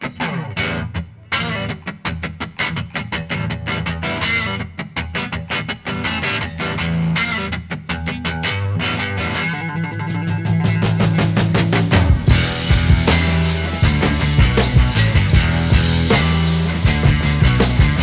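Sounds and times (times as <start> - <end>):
guitar rock music: 0.0 - 18.0.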